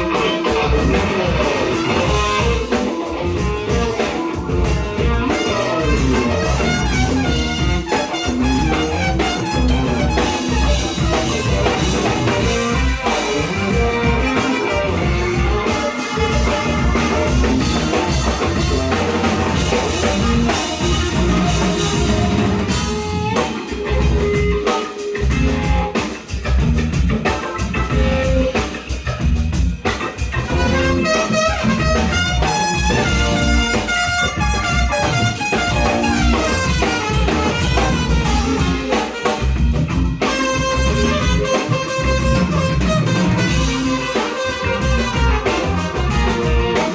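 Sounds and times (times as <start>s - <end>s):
live band playing soul-jazz: 0.0s - 46.9s.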